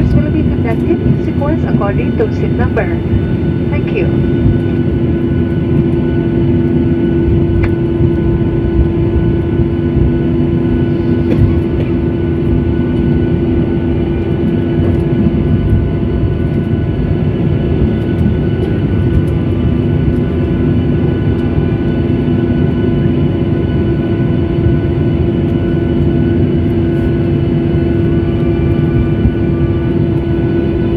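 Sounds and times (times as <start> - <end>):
aircraft engines droning: 0.0 - 30.9.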